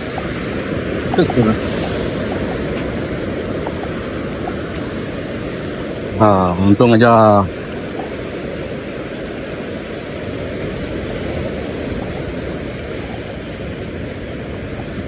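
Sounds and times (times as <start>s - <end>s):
surf on a beach: 0.0s - 15.0s
wind: 0.0s - 15.0s.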